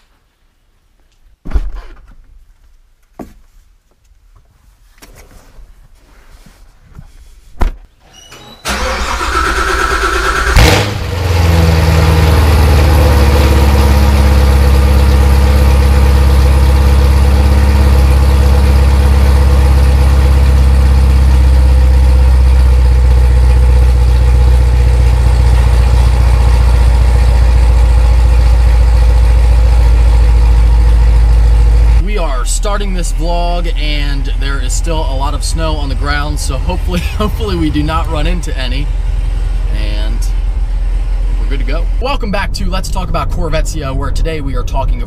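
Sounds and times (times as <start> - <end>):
car engine starting and idling: 8.0 - 45.0.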